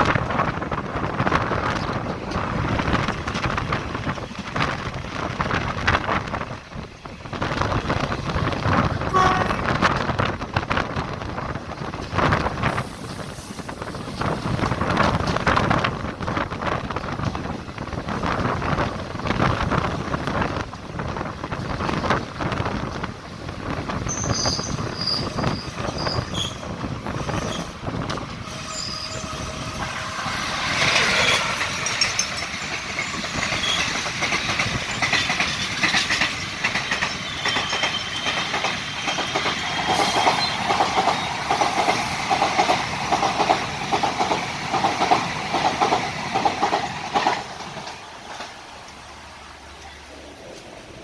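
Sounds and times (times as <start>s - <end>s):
train rumbling: 0.0s - 51.0s
wheels clacking over rail joints: 7.6s - 49.1s.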